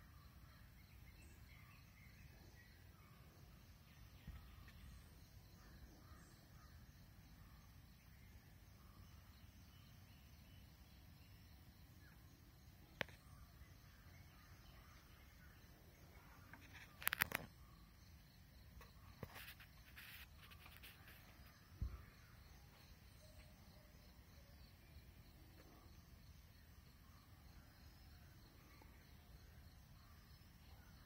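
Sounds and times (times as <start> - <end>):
distant bird calls: 0.0 - 31.0.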